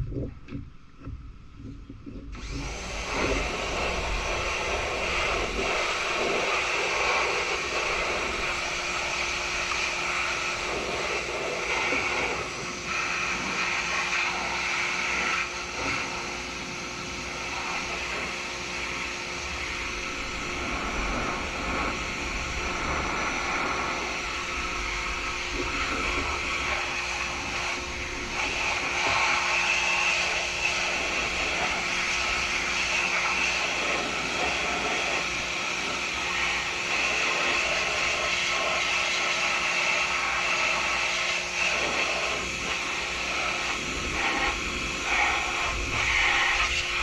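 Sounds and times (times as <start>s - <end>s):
pressure washer spraying water: 2.3s - 47.0s.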